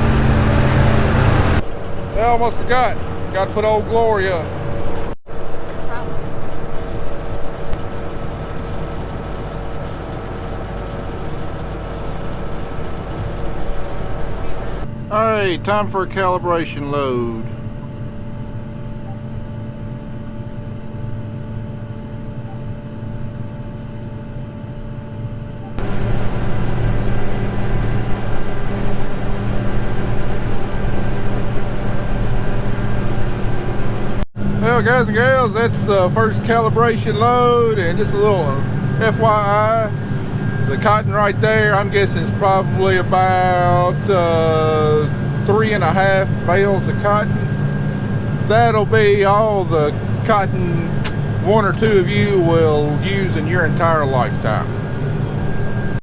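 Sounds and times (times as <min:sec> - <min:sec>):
mechanical rush: 0:00.0 - 0:15.9, 0:25.8 - 0:56.0
diesel engine running with whine: 0:00.0 - 0:56.0.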